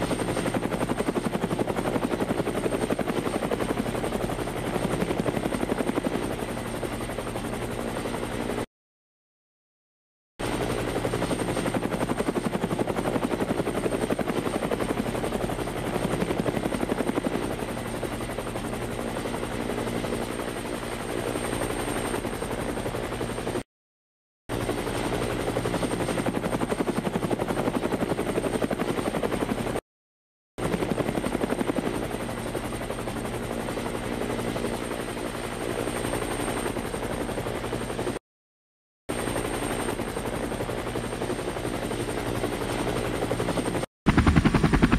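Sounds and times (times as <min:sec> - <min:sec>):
helicopter rotor chopping: 0:00.0 - 0:08.6, 0:10.4 - 0:23.6, 0:24.5 - 0:29.8, 0:30.6 - 0:38.2, 0:39.1 - 0:44.9.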